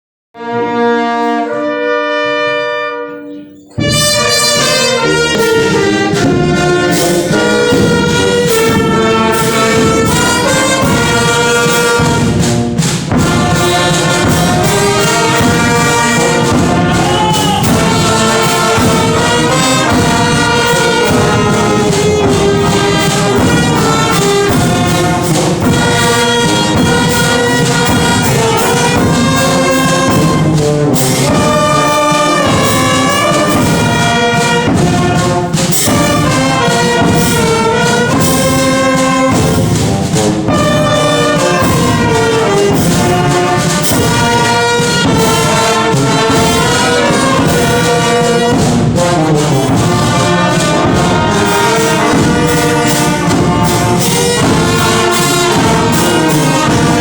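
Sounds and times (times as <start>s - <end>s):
brass band playing a hymn: 0.4s - 57.0s.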